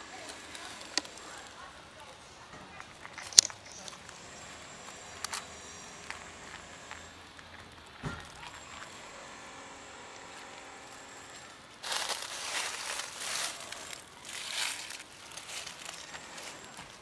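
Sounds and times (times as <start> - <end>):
rustling and crunching dry leaves: 0.0 - 17.0.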